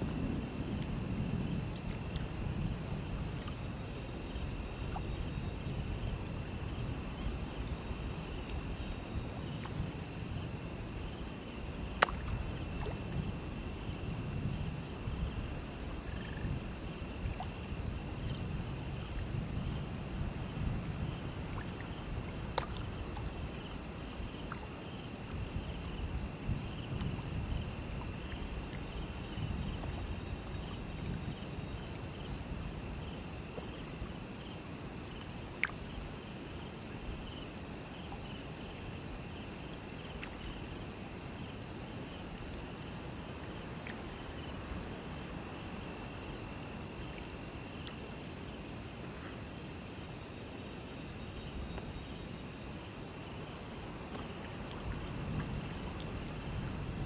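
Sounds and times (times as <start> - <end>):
crickets trilling: 0.0 - 57.0
pulsing insect call: 0.0 - 57.0.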